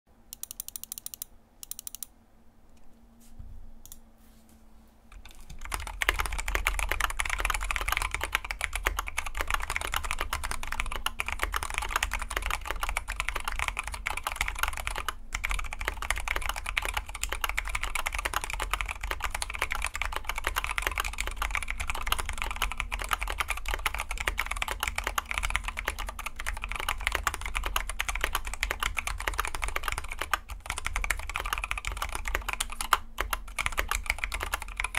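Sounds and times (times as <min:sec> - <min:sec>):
mechanical keyboard typing: 0:00.3 - 0:02.1, 0:05.1 - 0:34.9.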